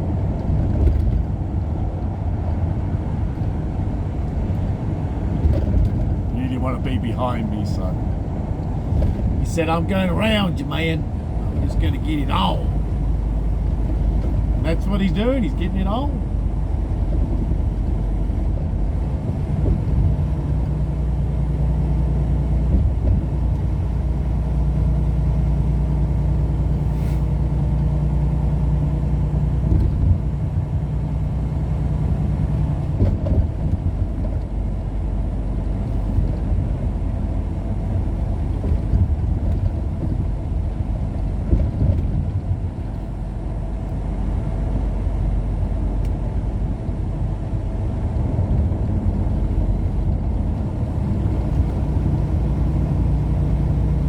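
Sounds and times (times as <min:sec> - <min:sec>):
vehicle engine and road drone: 0:00.0 - 0:54.0.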